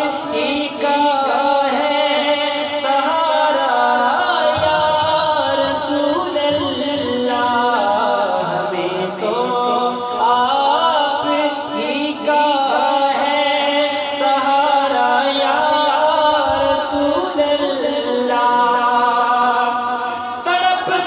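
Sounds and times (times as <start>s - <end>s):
man singing devotional song: 0.0s - 21.0s.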